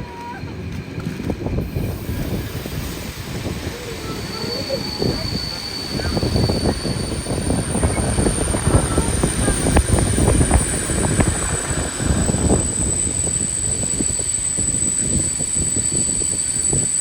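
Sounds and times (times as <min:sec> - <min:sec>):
train rattling on rails: 0:00.0 - 0:17.0.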